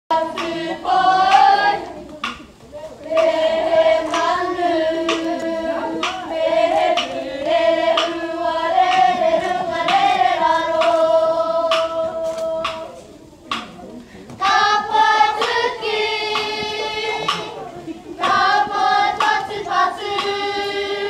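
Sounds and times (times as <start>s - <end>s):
girls singing in unison: 0.1s - 13.7s, 14.4s - 21.0s
poi tapping hands: 0.2s - 20.4s.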